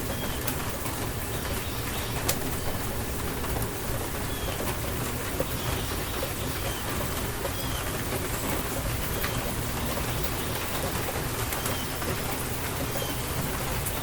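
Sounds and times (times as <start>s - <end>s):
raindrops ticking sharply: 0.0s - 14.0s
steady rain falling: 0.0s - 14.0s.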